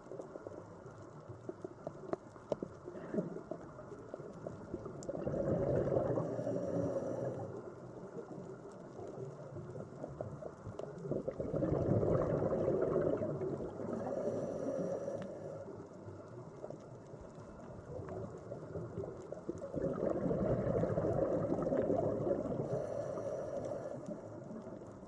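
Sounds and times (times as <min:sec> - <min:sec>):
muffled underwater bubbling rumble: 0:00.0 - 0:25.0.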